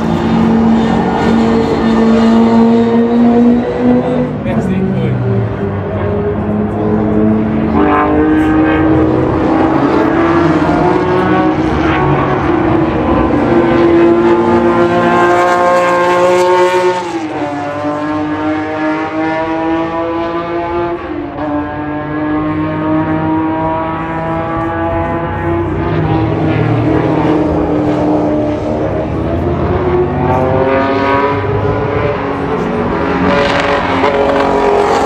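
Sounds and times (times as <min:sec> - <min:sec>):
racing car engine accelerating: 0:00.0 - 0:35.0.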